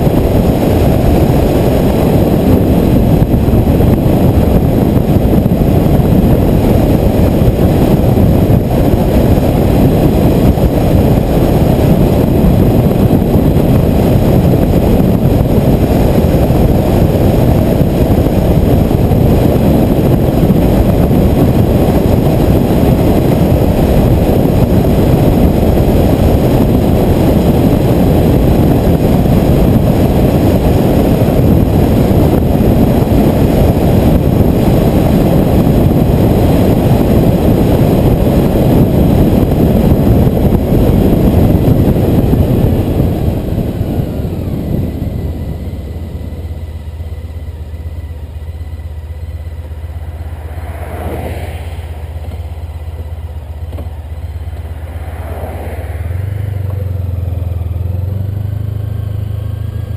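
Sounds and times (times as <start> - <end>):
motorcycle engine and tyres: 0.0 - 59.9
wind rushing over microphone: 0.0 - 59.9.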